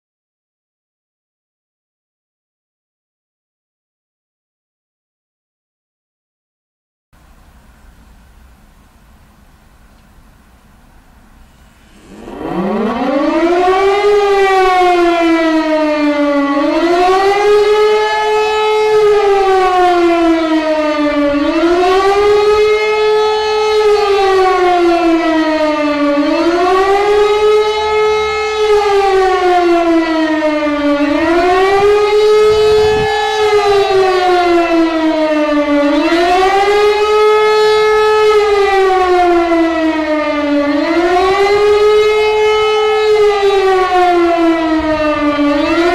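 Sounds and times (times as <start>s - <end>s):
civil defence siren wailing: 7.2s - 45.9s.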